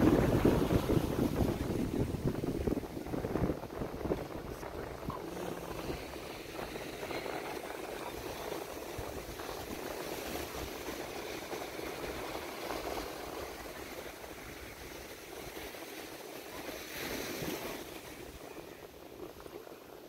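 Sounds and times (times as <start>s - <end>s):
small waves breaking on beach: 0.0s - 20.0s
wind rumbling on microphone: 0.0s - 20.0s.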